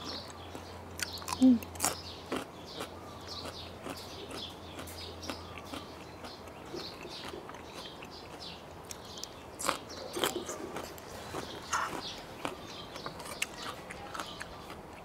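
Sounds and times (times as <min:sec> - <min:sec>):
chewing crunchy raw vegetables: 0:00.0 - 0:15.0.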